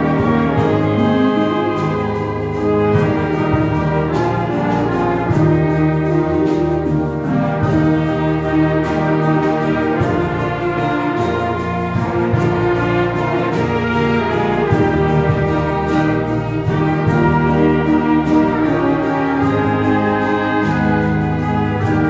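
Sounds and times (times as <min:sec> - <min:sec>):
small orchestra playing a hymn: 0:00.0 - 0:22.0.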